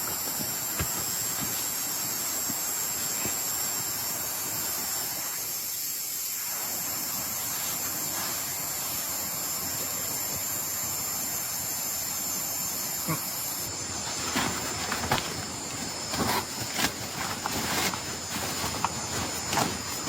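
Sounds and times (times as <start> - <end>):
heavy rain hiss: 0.0 - 20.0.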